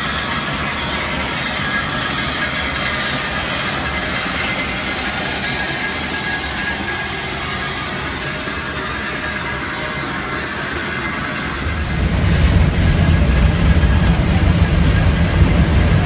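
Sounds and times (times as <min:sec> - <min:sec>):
steam locomotive working: 0:00.0 - 0:16.0.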